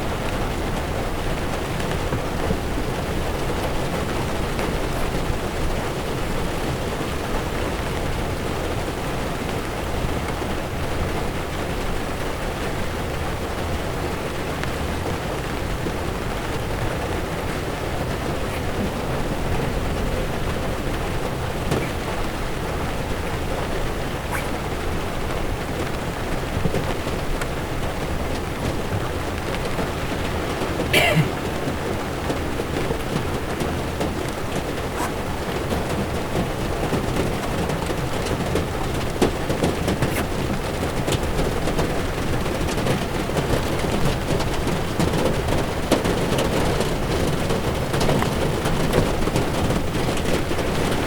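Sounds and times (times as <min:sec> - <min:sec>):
heavy rain on windshield: 0:00.0 - 0:51.0
tyres on wet road: 0:00.0 - 0:51.0.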